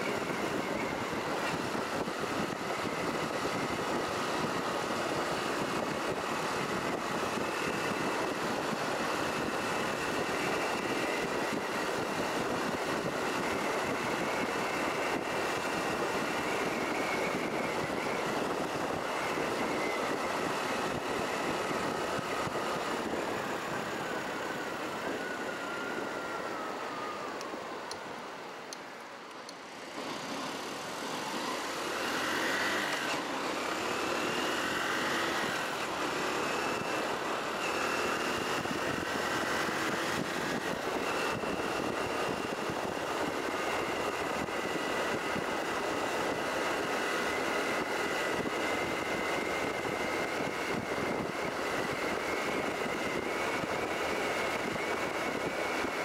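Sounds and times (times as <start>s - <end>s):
road noise: 0.0s - 56.0s
wind: 0.0s - 56.0s.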